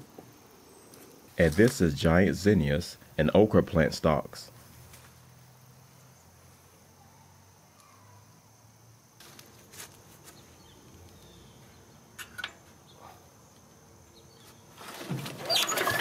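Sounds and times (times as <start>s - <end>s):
faint high insect drone: 0.0s - 16.0s.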